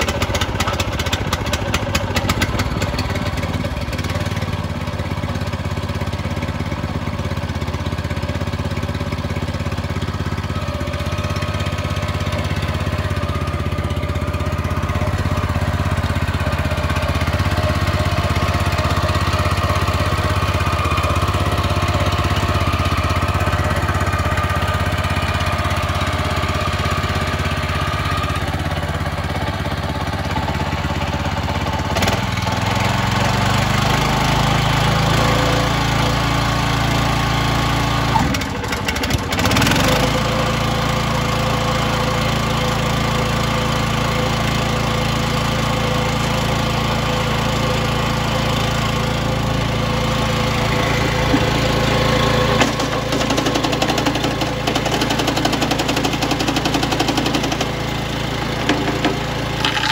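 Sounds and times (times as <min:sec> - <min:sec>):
chipper-shredder engine running: 0:00.0 - 0:59.9.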